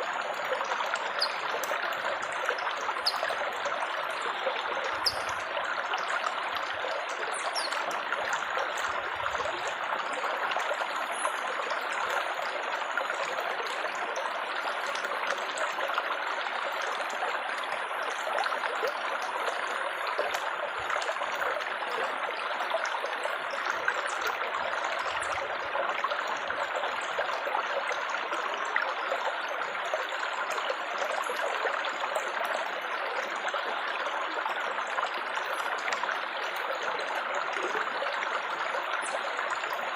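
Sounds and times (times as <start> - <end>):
water babbling and trickling: 0.0 - 39.9.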